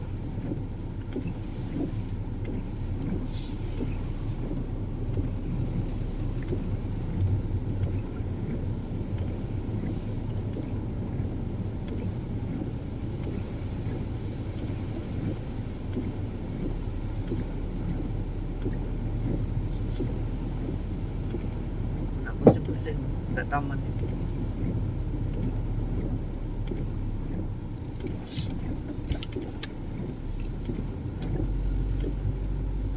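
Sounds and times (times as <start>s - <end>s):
car interior rumble: 0.0s - 32.9s
rain ticking: 0.0s - 32.9s.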